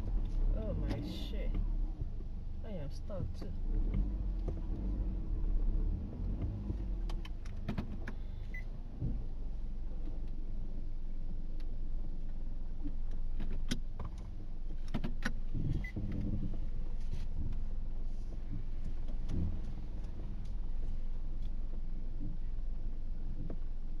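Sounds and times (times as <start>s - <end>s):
car engine low rumble: 0.0s - 24.0s.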